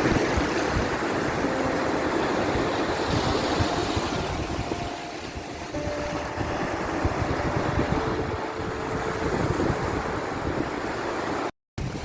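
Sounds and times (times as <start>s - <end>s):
sea waves and surf: 0.0s - 12.0s.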